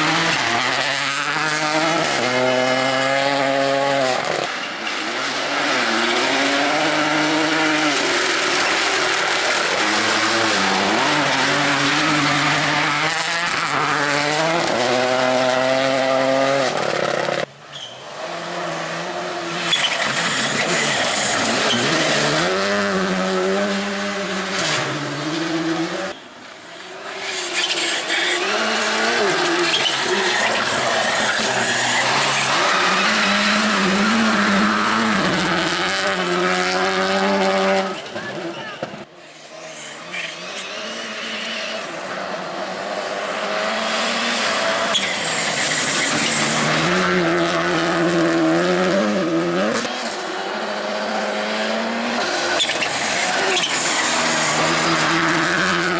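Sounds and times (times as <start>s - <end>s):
rally cars passing at speed: 0.0s - 55.9s.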